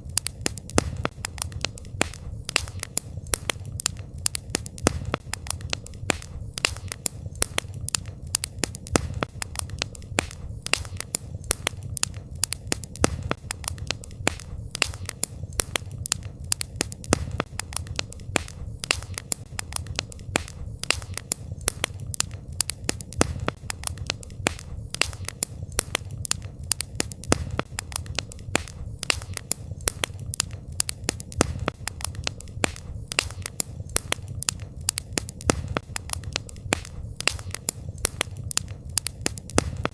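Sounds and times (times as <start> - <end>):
campfire crackling: 0.0 - 39.9
pops and snaps: 0.0 - 39.9.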